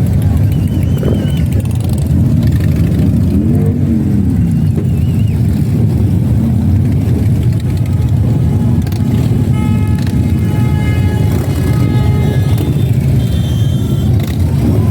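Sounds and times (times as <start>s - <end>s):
motorcycle engine revving: 0.0s - 14.9s
motorcycle engines rumbling: 0.0s - 14.9s.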